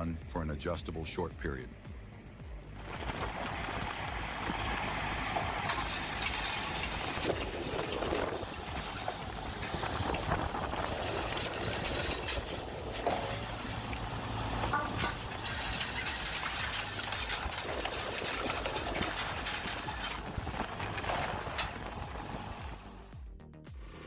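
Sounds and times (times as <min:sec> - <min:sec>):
engine hum: 0:01.3 - 0:24.0.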